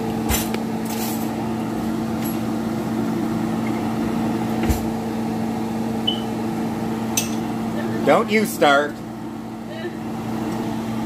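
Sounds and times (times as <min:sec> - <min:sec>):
kitchen fan humming: 0:00.0 - 0:11.0.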